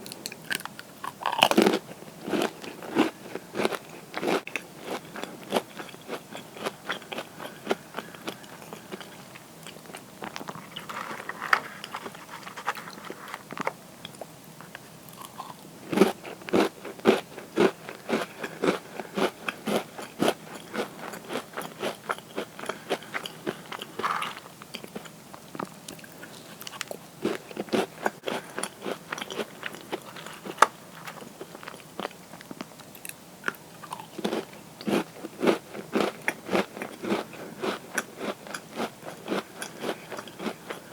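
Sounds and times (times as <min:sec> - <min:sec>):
crunching and chewing cookies: 0:00.0 - 0:40.9.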